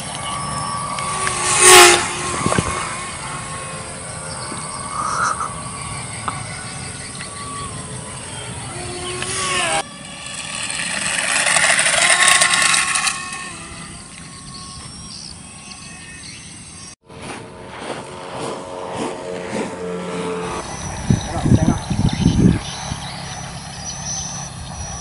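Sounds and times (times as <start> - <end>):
electric motor and propeller whining: 0.0 - 25.0.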